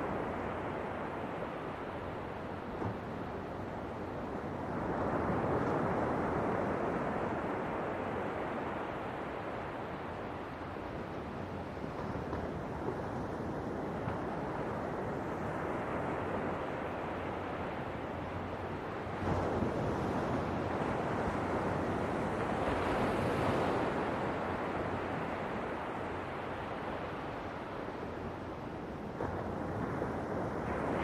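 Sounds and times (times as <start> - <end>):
ocean waves on shore: 0.0 - 31.0.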